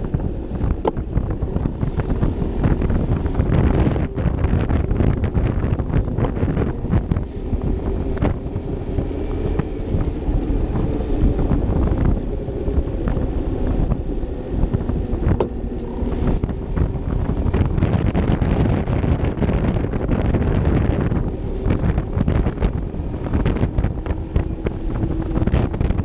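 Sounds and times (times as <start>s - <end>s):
scooter engine running: 0.0s - 26.0s
wind buffeting microphone: 0.0s - 26.0s.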